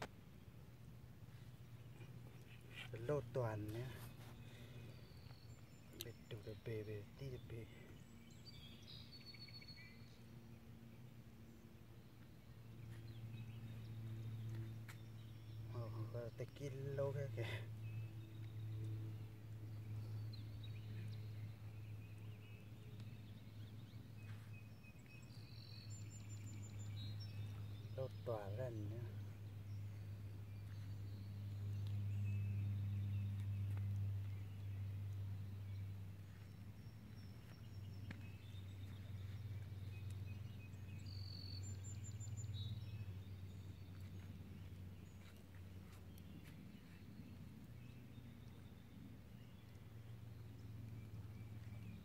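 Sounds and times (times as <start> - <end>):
birds whistling faintly: 0.0 - 52.0
steady low hum: 0.0 - 52.0.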